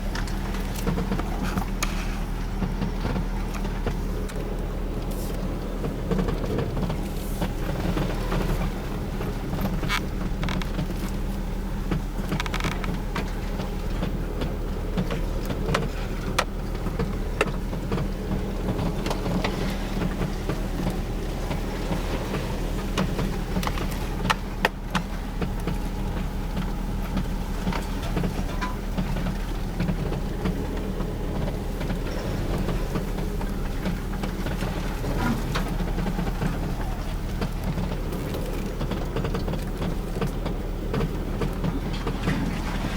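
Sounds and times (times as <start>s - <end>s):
car engine and road hum: 0.0s - 42.9s
interior trim creaks and ticks: 0.0s - 42.9s.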